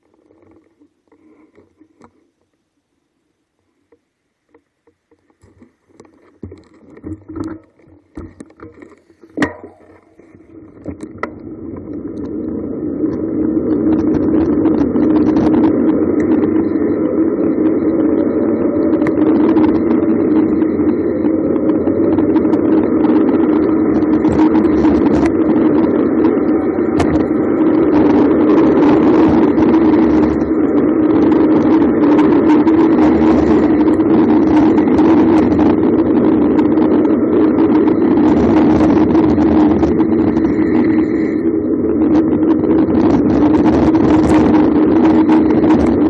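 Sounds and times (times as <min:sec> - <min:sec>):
steady hum: 0:00.0 - 0:46.0
road rumble: 0:05.5 - 0:46.0
wind on microphone: 0:05.5 - 0:46.0.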